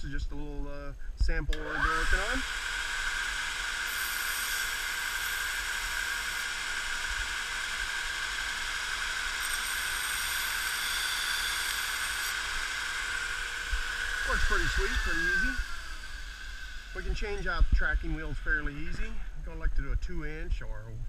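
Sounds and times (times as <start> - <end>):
belt grinder motor whine: 1.5 - 19.1.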